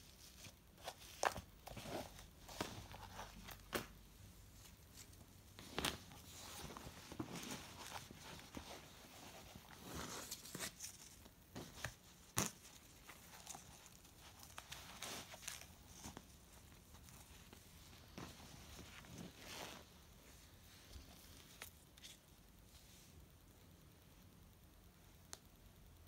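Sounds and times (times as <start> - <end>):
rustling of paper and fabric: 0.0 - 23.2.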